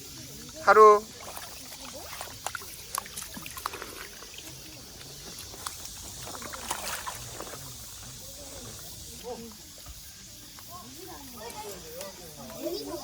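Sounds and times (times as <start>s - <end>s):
stream water running: 0.0s - 13.0s
small splashes and clicks: 0.3s - 12.8s.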